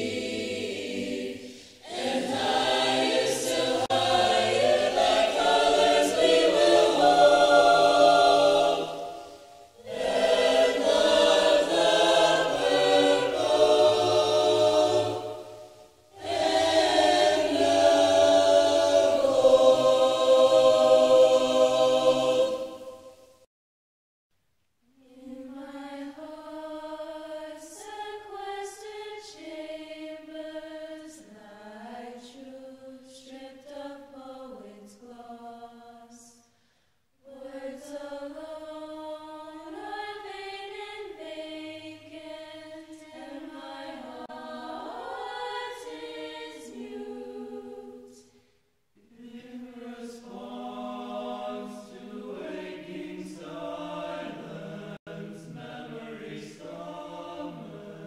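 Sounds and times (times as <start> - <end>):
choir singing slow notes: 0.0 - 23.5, 24.8 - 58.0.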